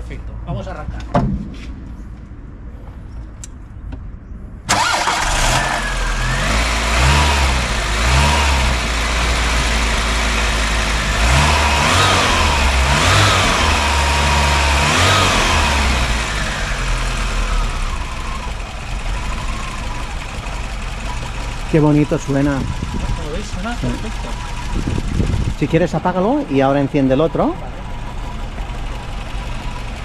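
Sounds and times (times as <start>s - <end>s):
car engine revving and idling: 4.7s - 30.0s.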